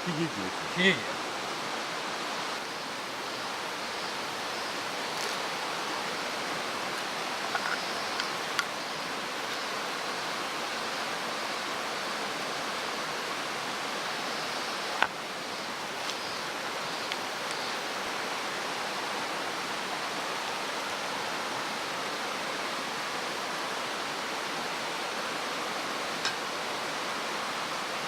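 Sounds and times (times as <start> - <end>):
stream rushing: 0.0 - 28.0.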